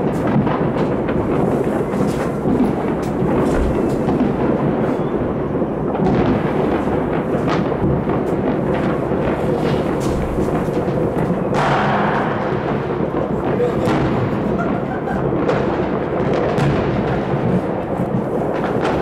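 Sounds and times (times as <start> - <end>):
distant fireworks bangs and crackles: 0.0 - 19.0.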